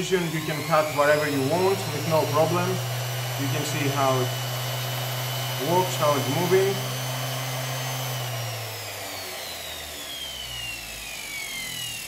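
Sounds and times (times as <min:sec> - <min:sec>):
grinder motor whine slowing down: 0:00.0 - 0:12.0.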